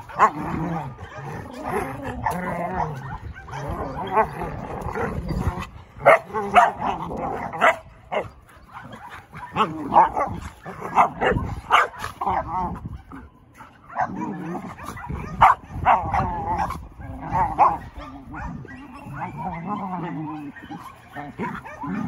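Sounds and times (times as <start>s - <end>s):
dogs barking and yipping: 0.0s - 22.0s
dogs growling: 0.0s - 22.0s.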